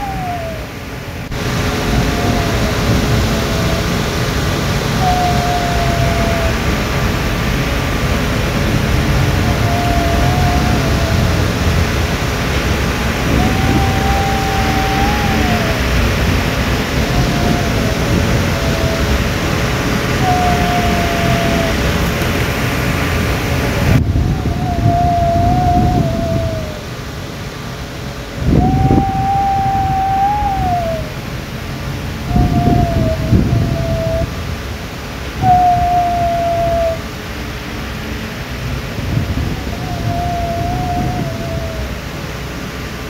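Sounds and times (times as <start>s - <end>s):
deep underwater rushing: 0.0s - 27.1s, 28.3s - 43.0s
high moaning call: 0.0s - 27.2s, 28.2s - 43.0s.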